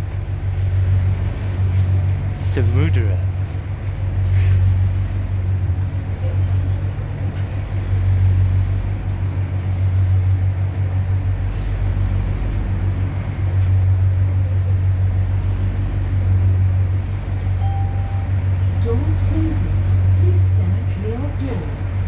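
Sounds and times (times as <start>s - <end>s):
train car equipment humming: 0.0s - 22.0s.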